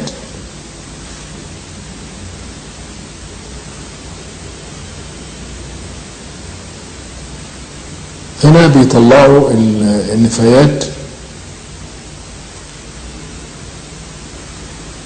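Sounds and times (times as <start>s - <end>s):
faint low hum: 0.0s - 15.0s
steady hiss: 0.0s - 15.0s.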